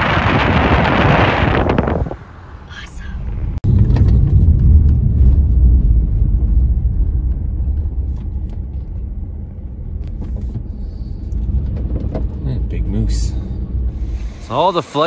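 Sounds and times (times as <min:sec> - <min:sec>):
vehicle road rumble from inside: 0:00.0 - 0:15.0.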